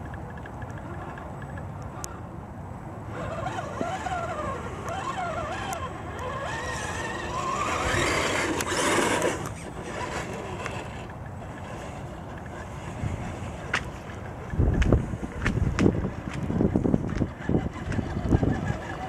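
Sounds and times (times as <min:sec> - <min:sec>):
rc car motor and gear whine: 0:03.0 - 0:19.0.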